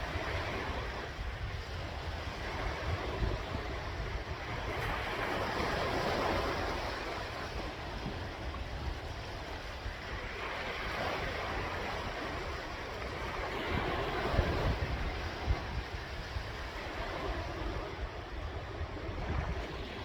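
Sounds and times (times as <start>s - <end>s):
sea waves washing onto shore: 0.0s - 20.0s
wind rumble on microphone: 0.0s - 20.0s.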